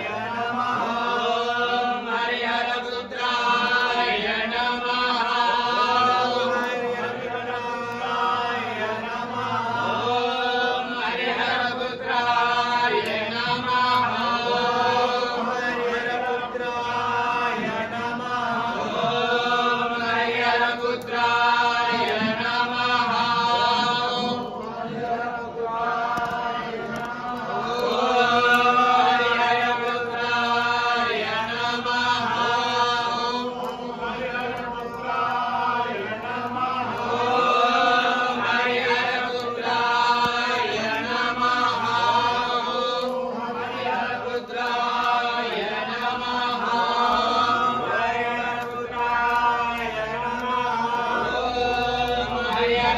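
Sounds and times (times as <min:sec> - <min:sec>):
person chanting: 0:00.0 - 0:52.9.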